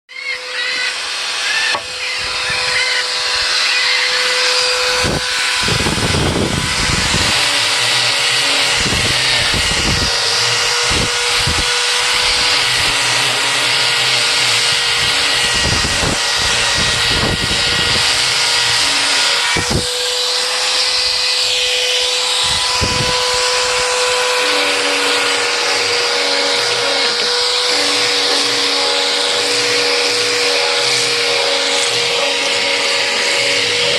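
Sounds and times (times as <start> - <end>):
power tool motor whining: 0.1 - 33.9.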